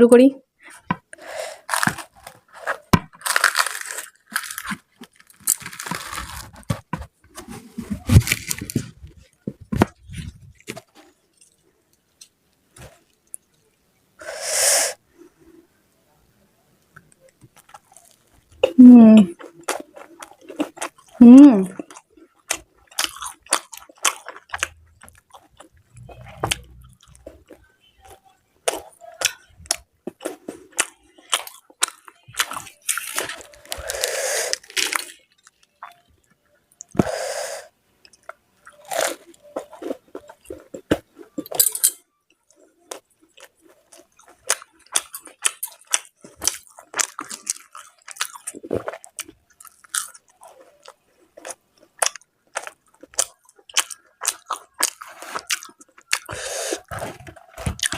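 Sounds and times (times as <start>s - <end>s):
person chewing food: 0.6s - 13.6s, 16.9s - 57.9s.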